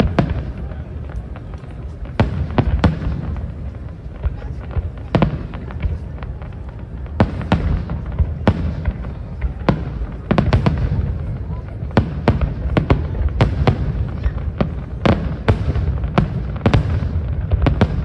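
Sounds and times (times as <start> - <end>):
fireworks bursting in sharp bangs: 0.0 - 18.0
steady low rumble: 0.0 - 18.0.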